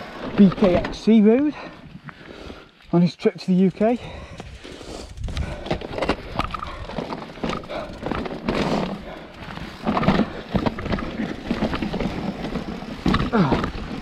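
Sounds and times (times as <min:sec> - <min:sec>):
mountain bike rattling over rocks: 0:00.0 - 0:02.0, 0:03.0 - 0:14.0.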